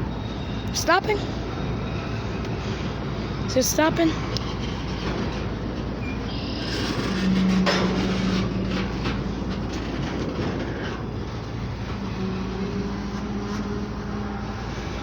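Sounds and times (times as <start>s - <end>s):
train low hum: 0.0s - 15.0s
train wheels clicking over rail joints: 0.0s - 15.0s.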